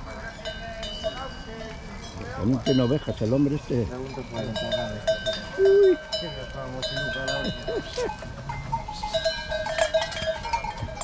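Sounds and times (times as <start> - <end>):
sheep bells clanking: 0.0 - 11.0.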